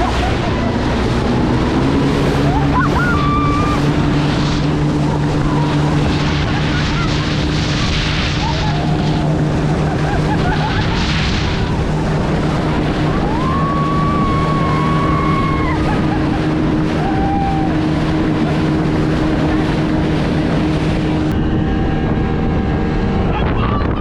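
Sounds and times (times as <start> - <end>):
rushing water: 0.0 - 23.4
high whine: 0.0 - 24.0
outboard motor running: 0.0 - 24.0
wind on microphone: 0.0 - 24.0.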